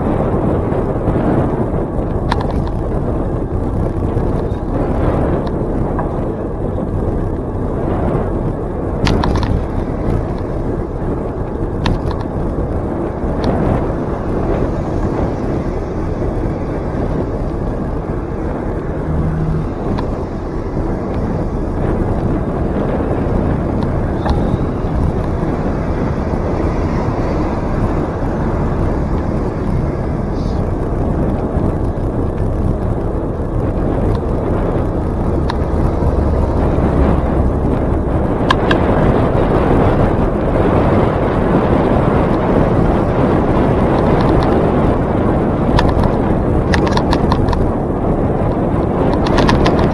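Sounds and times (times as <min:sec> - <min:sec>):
bicycle rolling on a trail: 0:00.0 - 0:49.9
wind noise: 0:00.0 - 0:49.9
bicycle clicks and rattles: 0:00.1 - 0:49.9.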